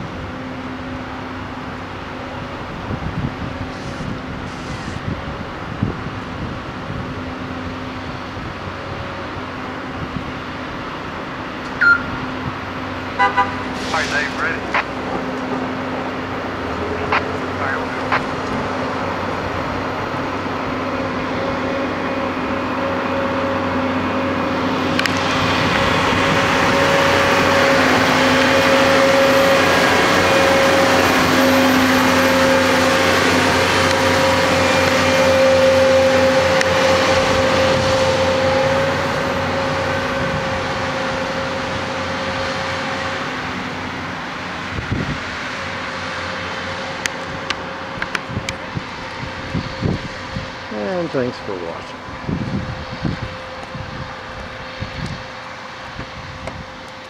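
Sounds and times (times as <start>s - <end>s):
diesel track machine passing: 0.0s - 57.0s.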